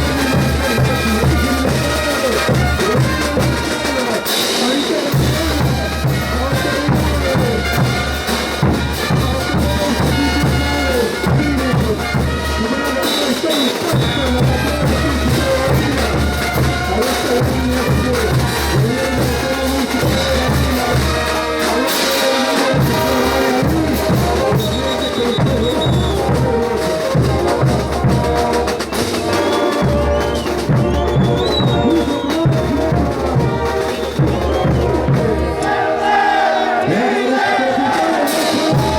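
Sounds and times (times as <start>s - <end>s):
brass band playing: 0.0s - 38.9s
drums beating: 0.0s - 38.9s.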